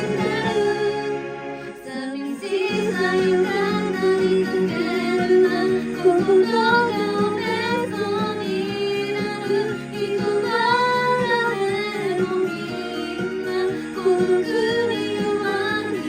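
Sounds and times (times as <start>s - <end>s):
karaoke backing track: 0.0s - 16.0s
woman singing: 0.0s - 16.0s.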